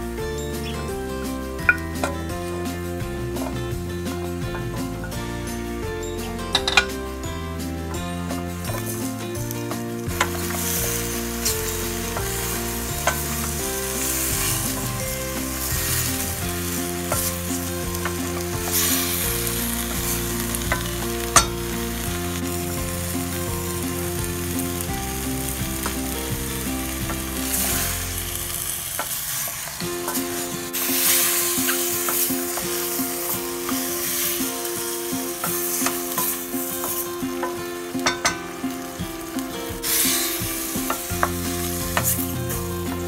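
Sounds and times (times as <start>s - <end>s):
soft background music: 0.0s - 43.0s
vegetables sizzling in pot: 0.0s - 43.0s.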